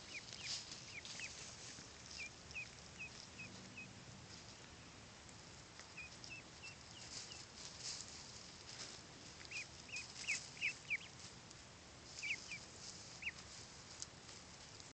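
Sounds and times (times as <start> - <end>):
ducklings peeping: 0.0 - 14.9
faint rustling: 0.0 - 14.9.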